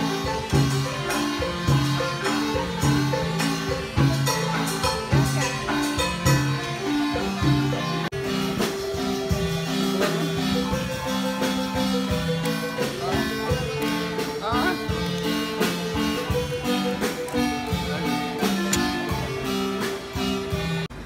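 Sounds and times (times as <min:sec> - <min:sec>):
instrumental music with steady beat: 0:00.0 - 0:21.0.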